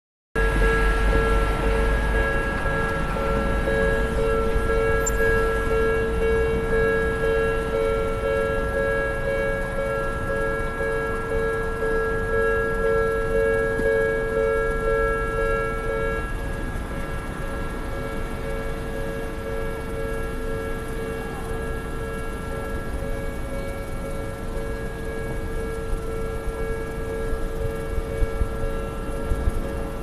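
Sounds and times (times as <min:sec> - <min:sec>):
level crossing alarm bell: 0:00.4 - 0:30.0.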